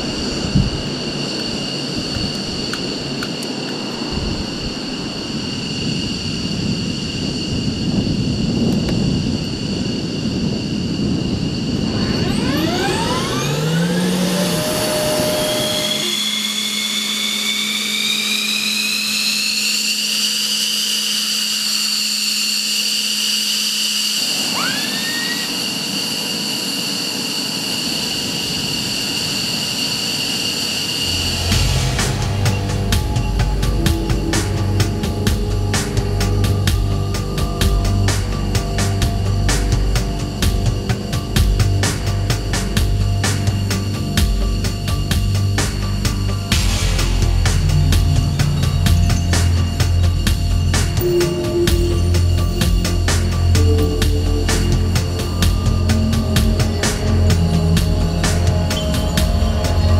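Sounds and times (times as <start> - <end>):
jet engine rumble: 0.0 - 59.9
jet engine turbine whine: 0.0 - 59.9
turbine spooling up: 0.0 - 59.9.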